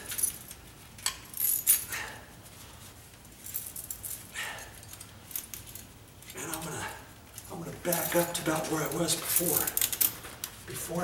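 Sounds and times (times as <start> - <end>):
metal chain links clinking: 0.0 - 2.2, 3.3 - 10.6.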